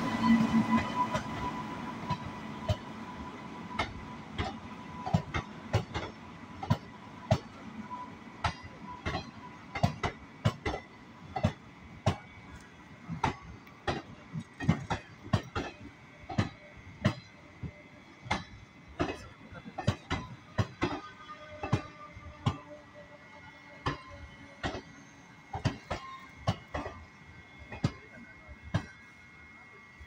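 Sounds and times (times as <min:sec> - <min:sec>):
train wheels clicking over rail joints: 0:00.0 - 0:22.8, 0:23.7 - 0:29.2
train rolling rumble: 0:00.0 - 0:30.0.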